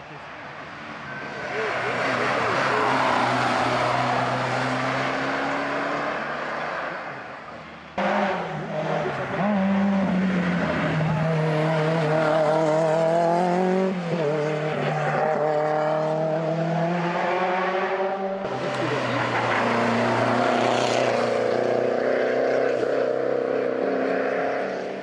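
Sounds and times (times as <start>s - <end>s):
race car engines accelerating: 0.0s - 25.0s.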